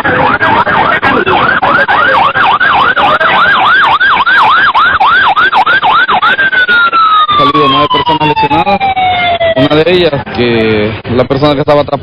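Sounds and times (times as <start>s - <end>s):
electronic siren yelping: 0.0s - 10.1s.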